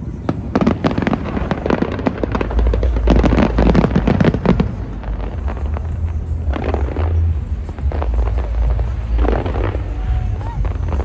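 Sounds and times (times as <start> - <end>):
deep rumble: 0.0 - 11.0
fireworks crackling: 0.0 - 11.0.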